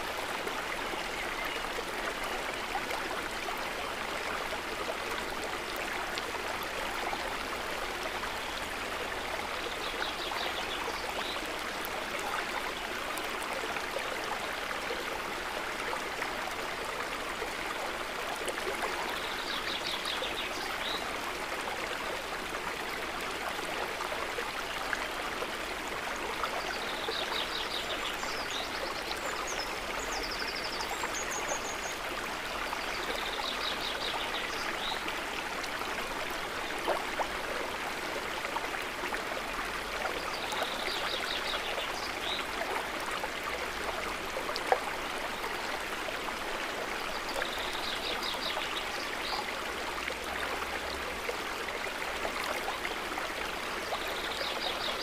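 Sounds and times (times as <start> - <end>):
water trickling and gurgling: 0.0 - 55.0.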